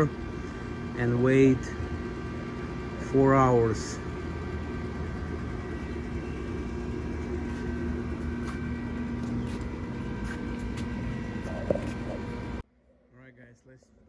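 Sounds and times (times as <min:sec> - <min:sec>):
combustion fan humming: 0:00.0 - 0:14.0.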